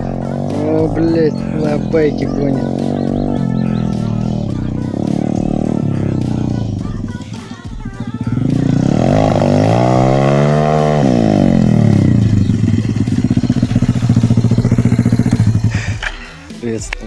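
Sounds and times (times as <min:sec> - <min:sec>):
motorcycle engine revving: 0:00.0 - 0:16.3.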